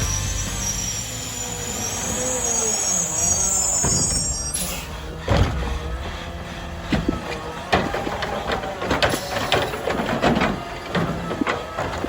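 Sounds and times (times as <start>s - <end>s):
garbage truck squealing: 0.0s - 12.0s.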